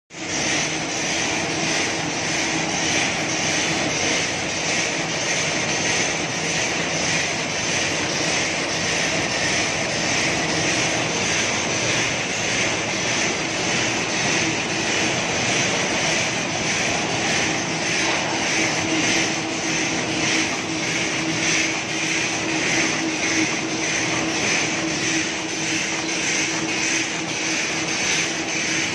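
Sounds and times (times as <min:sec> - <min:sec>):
packaging machine running: 0:00.2 - 0:28.9.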